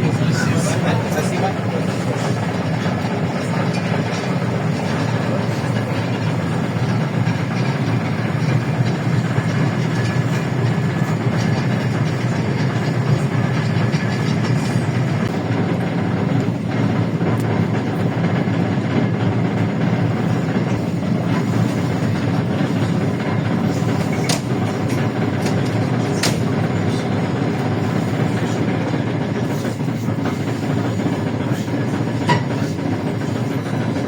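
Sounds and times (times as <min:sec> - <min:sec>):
bus body rattling: 0:00.0 - 0:18.4, 0:19.3 - 0:34.0
bus engine drone: 0:00.0 - 0:33.6.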